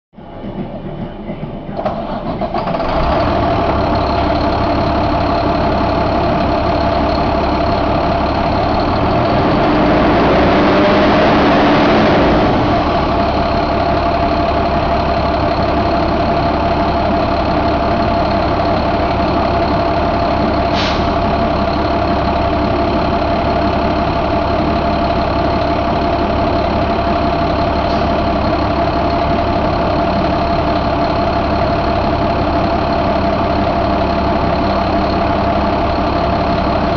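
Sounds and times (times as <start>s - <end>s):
diesel engine idling: 0.2s - 36.9s.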